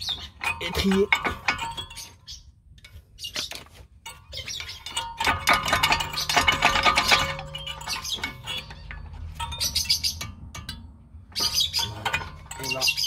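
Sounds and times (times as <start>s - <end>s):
metal clicking and scraping: 0.0s - 13.0s.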